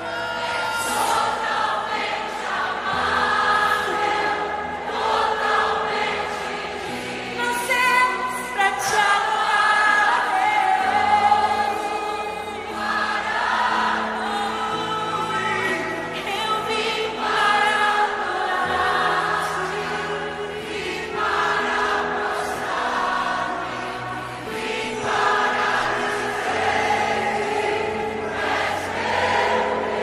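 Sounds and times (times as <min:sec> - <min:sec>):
crowd singing along: 0:00.0 - 0:30.0.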